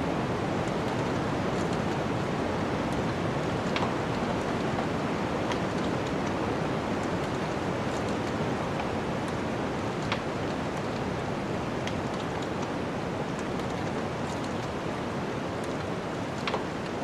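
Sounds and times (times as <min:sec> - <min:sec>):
wood fire crackling: 0:00.6 - 0:17.0.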